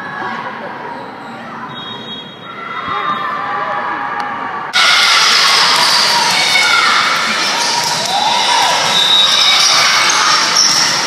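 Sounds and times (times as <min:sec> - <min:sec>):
crowd shouting and cheering: 0:00.0 - 0:11.0.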